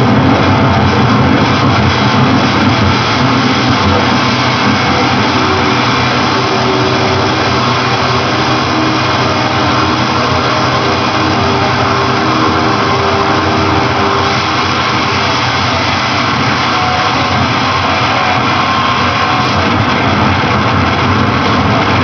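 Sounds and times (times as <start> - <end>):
harsh amplified electronic noise: 0.0 - 22.0.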